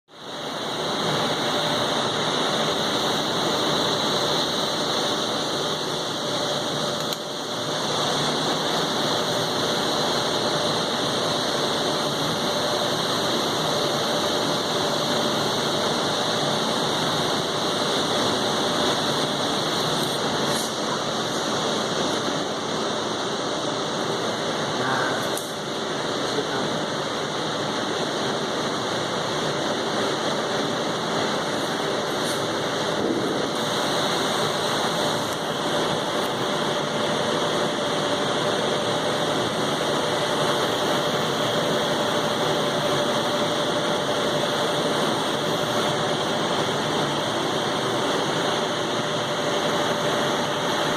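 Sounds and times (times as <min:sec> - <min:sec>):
welding machine hiss and hum: 0:00.1 - 0:50.9.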